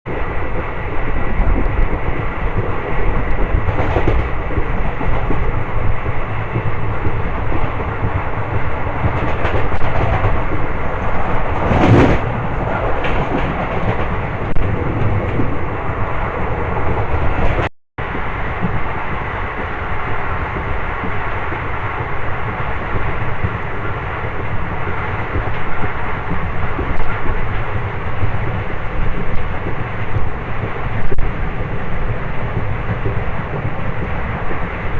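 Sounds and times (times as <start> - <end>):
train wheels rumbling on rails: 0.1 - 34.9
clickety-clack of wheels: 0.3 - 15.6, 16.4 - 34.9.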